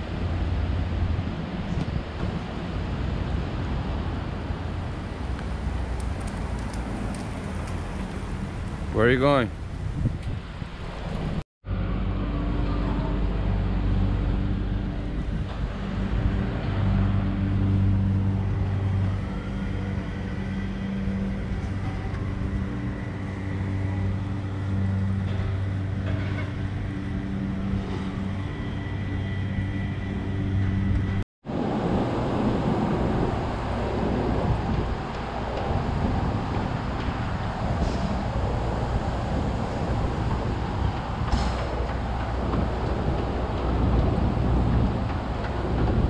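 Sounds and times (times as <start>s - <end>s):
road noise: 0.0s - 46.0s
vehicle engine drone: 0.0s - 46.0s.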